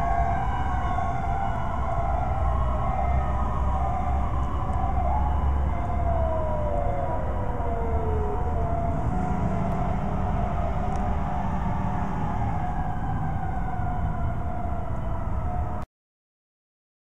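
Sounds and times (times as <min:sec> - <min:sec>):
low rumble of engines and traffic: 0:00.0 - 0:15.8
fire truck sirens: 0:00.0 - 0:15.9.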